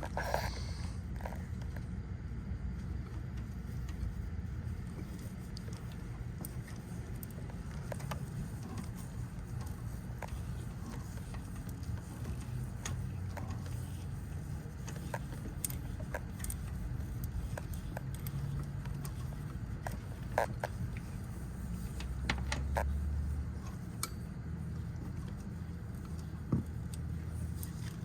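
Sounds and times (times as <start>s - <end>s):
steady low rumble: 0.0s - 27.9s.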